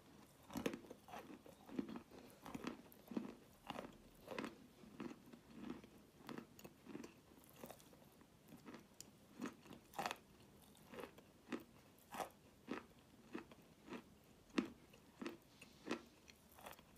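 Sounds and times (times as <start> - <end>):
chalk crunching while chewed: 0.1 - 16.9.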